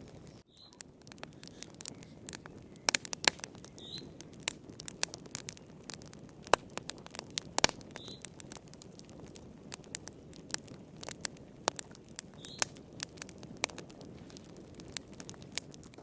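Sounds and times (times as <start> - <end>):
wood fire crackling and popping: 0.0 - 16.0
flame rushing: 1.0 - 16.0.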